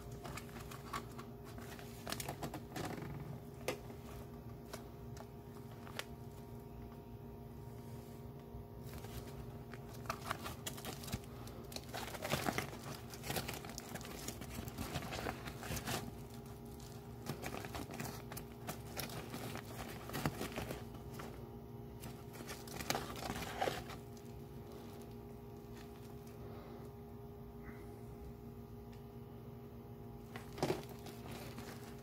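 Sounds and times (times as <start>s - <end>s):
plastic crinkling and rustling: 0.0s - 7.0s, 8.8s - 26.4s, 30.2s - 32.0s.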